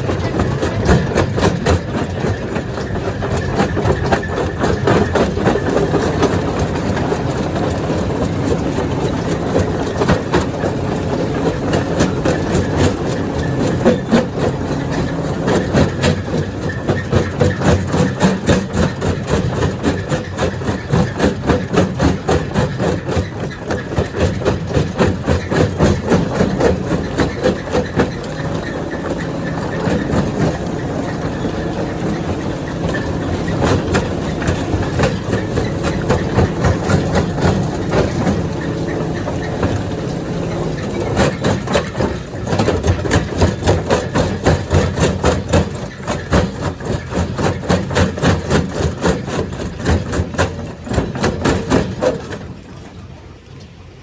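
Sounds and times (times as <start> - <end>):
heavy machine drone: 0.0 - 48.8
rock clattering in crusher: 0.0 - 52.7.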